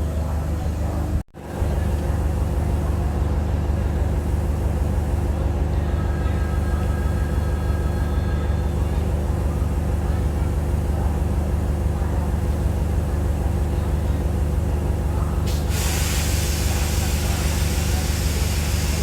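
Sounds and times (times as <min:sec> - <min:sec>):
train diesel engine throbbing: 0:01.6 - 0:19.0.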